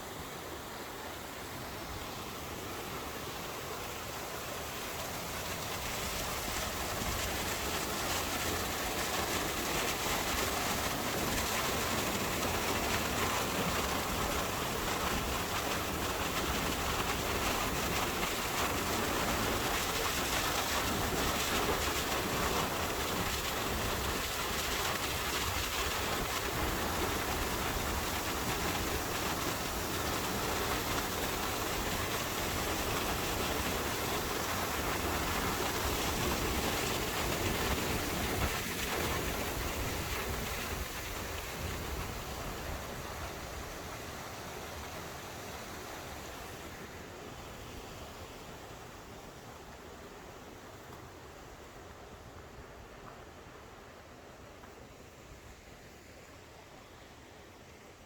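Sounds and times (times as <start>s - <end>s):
stream water rushing and splashing: 0.0s - 58.0s.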